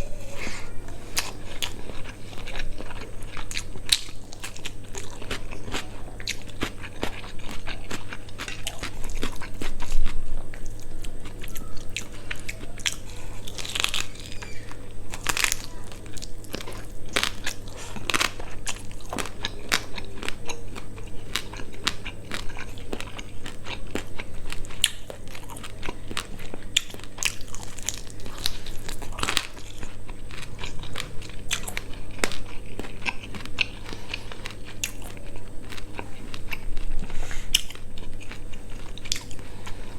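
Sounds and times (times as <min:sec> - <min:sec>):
wet chewing and crunching: 0:00.9 - 0:39.9.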